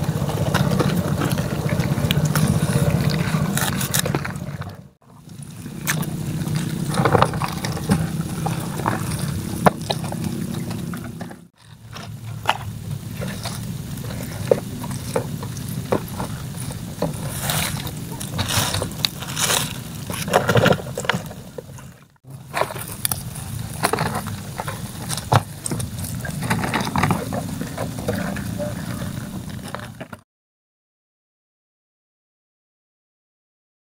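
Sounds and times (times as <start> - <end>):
steady low hum: 0.0 - 30.1
shrimp and crabs crackling: 0.0 - 30.2.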